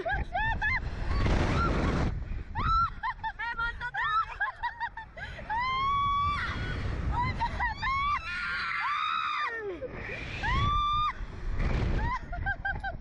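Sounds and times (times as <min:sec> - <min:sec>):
low rumble: 0:00.0 - 0:08.6, 0:09.8 - 0:13.0
women screaming and shrieking: 0:00.0 - 0:11.2.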